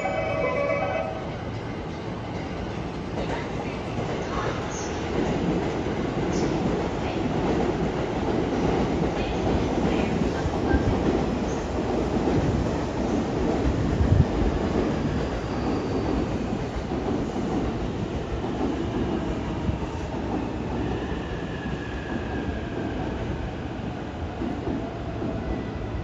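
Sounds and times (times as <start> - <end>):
train wheels on rails: 0.1 - 26.0.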